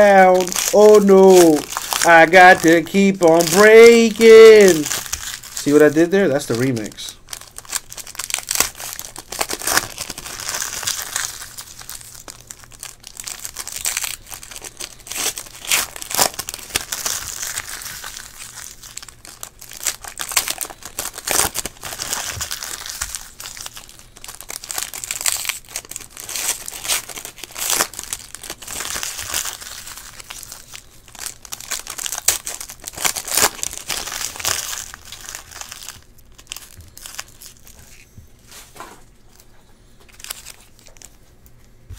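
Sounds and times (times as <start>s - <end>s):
foil wrappers crinkling and tearing: 0.0s - 41.2s.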